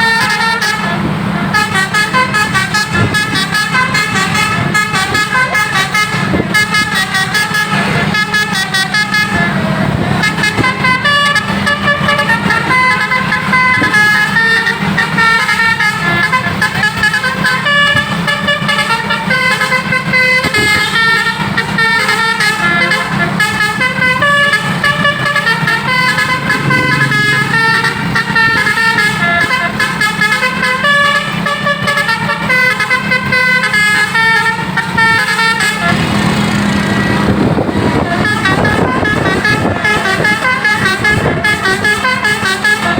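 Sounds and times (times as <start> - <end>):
bus air horn melody: 0.0 - 42.9
bus engine humming: 0.0 - 42.9.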